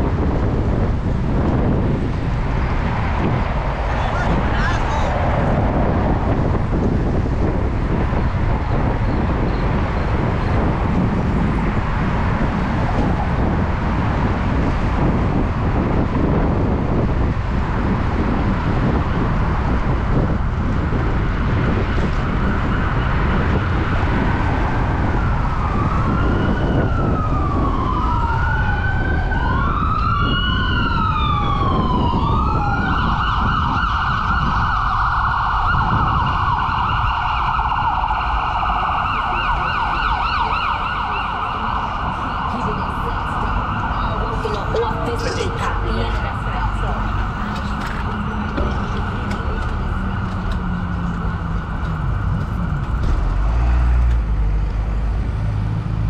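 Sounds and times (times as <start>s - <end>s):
emergency vehicle siren wailing: 0.0s - 56.0s
road noise: 0.0s - 56.0s
wind: 0.0s - 56.0s.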